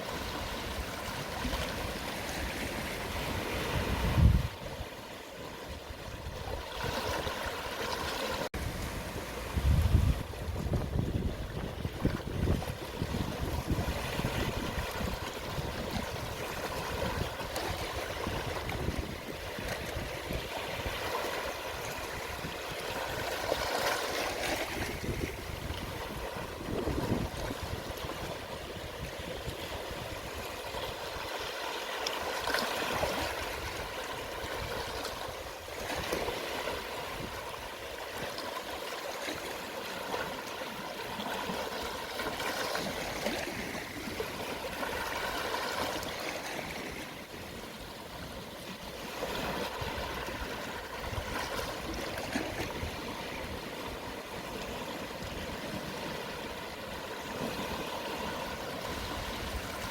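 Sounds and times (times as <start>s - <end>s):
small waves washing onto shore: 0.0s - 59.9s.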